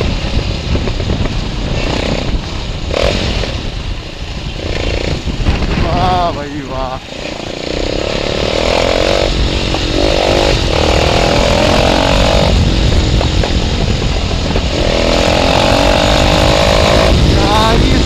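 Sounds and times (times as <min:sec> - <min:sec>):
motorcycle engine revving: 0:00.0 - 0:18.0
wind on microphone: 0:00.0 - 0:18.0.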